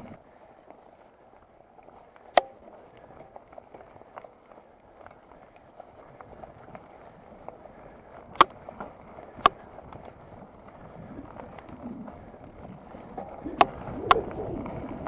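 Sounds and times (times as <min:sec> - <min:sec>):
bike rattling ticks: 0:00.0 - 0:15.0
bike tyres crunching on gravel: 0:00.0 - 0:15.0.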